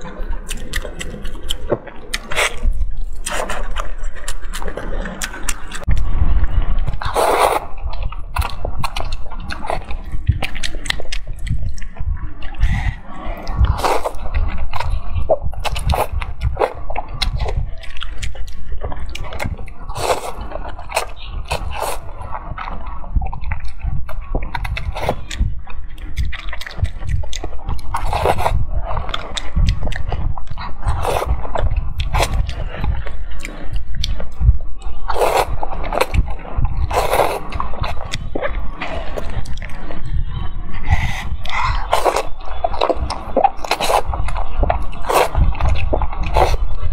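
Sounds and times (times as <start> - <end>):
wet chewing of noodles: 0.0 - 46.9.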